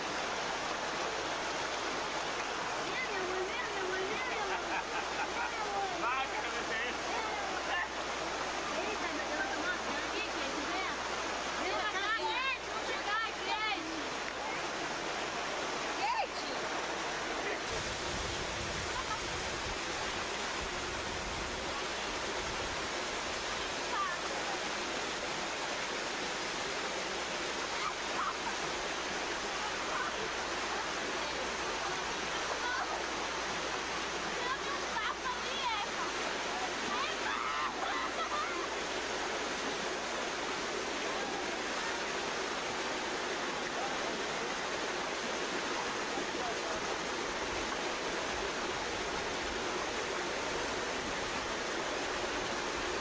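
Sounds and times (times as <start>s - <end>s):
shallow river rushing: 0.0s - 53.0s.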